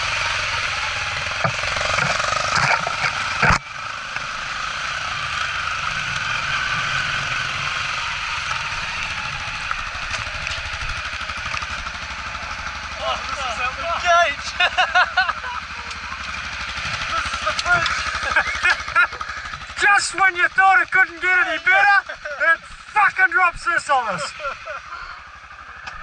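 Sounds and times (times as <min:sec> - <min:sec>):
bike jolting over ruts: 0:00.0 - 0:23.0
dirt bike engine running: 0:00.0 - 0:26.0.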